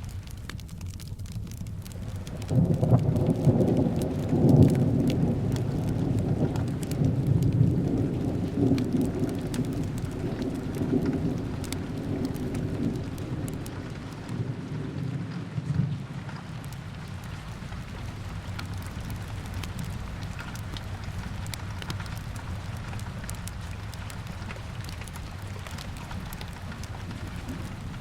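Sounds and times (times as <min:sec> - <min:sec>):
steady rain: 0:00.0 - 0:28.0
thunder rolling: 0:01.7 - 0:28.0.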